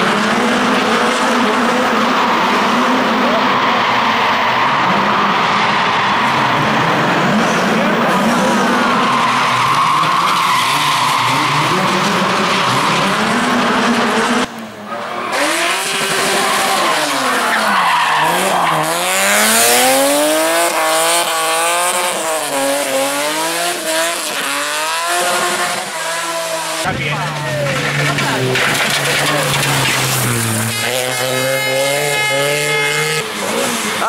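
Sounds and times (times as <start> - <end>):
engine revs swinging down and up: 0.0 - 34.0
rally car engines at full throttle: 0.0 - 34.0.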